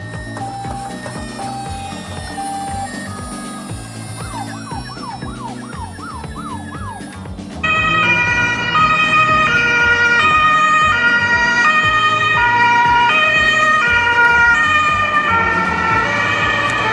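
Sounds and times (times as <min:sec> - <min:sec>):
two-tone ambulance siren: 0:00.0 - 0:16.9.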